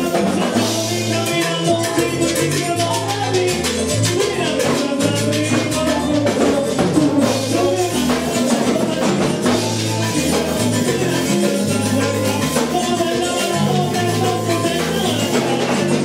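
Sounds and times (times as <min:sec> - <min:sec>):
salsa band playing: 0:00.0 - 0:16.0.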